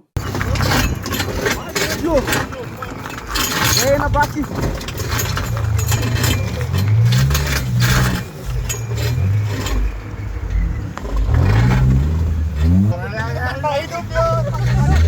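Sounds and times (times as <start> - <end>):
clicks and rattles: 0.2 - 13.0
car engine accelerating: 2.1 - 15.0.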